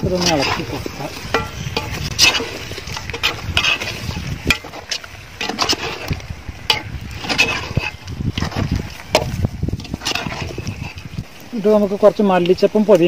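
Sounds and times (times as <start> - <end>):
spoon scraping a metal pot: 0.0 - 11.2.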